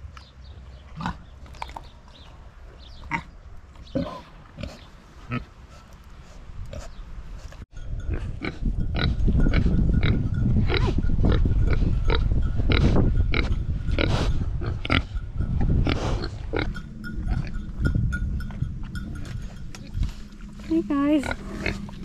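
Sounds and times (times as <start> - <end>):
pigs grunting and snuffling: 0.7 - 22.0.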